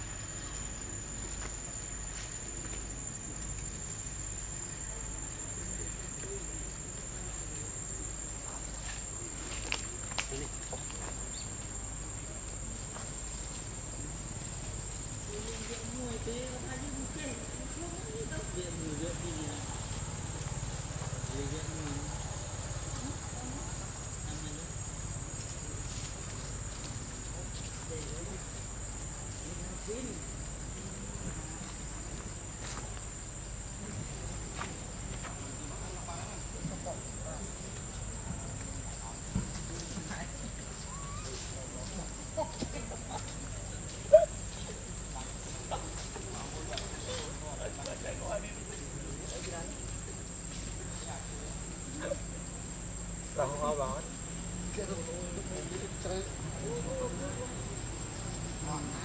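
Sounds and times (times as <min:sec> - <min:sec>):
insects buzzing drone: 0:00.0 - 0:59.0.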